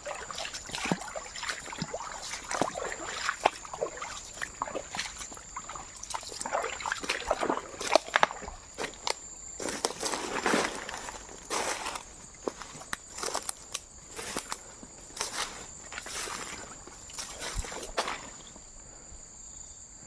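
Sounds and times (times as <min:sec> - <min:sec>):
footsteps splashing through water: 0:00.0 - 0:18.7.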